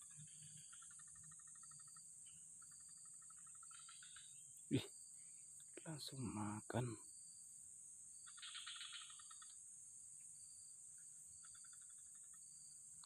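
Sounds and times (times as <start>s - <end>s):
high-pitched insect drone: 0.0s - 13.0s
insect pulsed trill: 0.0s - 13.0s.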